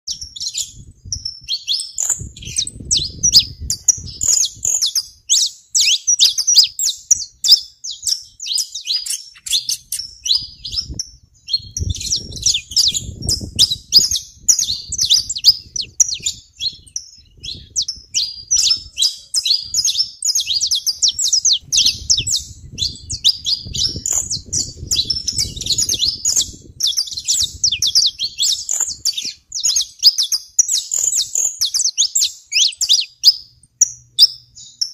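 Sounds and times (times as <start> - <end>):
finches chirping: 0.1 - 34.9.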